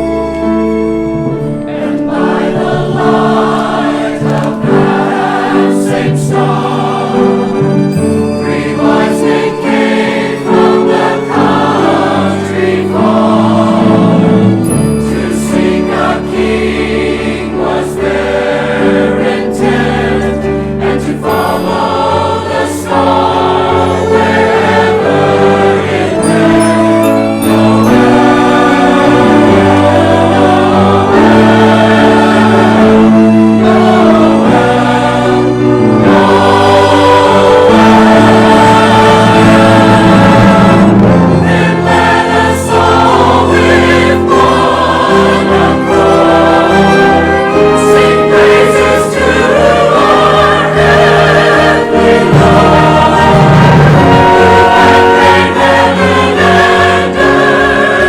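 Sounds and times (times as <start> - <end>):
choir singing: 0.0 - 58.0
orchestral accompaniment: 0.0 - 58.0.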